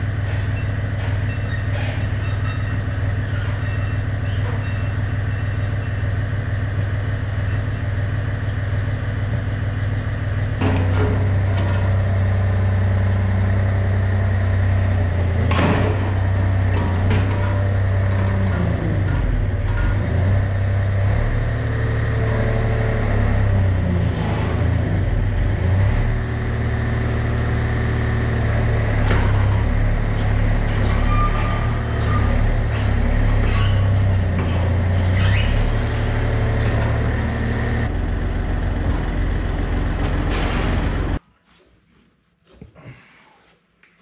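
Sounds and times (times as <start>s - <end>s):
diesel engine humming: 0.0s - 41.2s.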